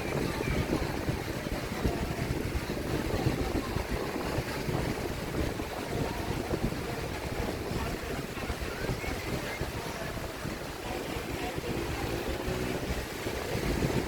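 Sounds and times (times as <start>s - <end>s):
sea surf: 0.0s - 14.0s
wind buffeting microphone: 0.0s - 14.0s.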